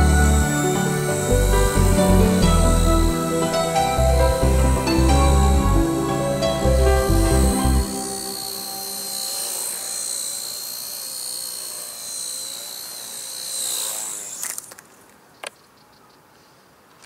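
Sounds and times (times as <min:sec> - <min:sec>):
toy helicopter motor whine: 0:00.0 - 0:15.3.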